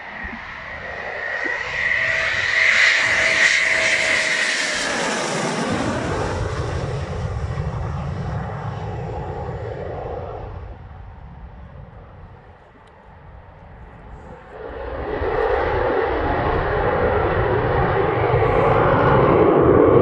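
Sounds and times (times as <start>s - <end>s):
jet engines passing overhead: 0.0s - 20.0s.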